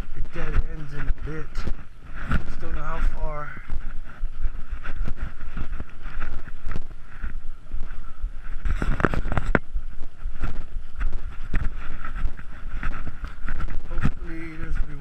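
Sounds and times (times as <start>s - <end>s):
camera handling rumble: 0.0s - 15.0s
scuffing footsteps on a path: 0.0s - 15.0s.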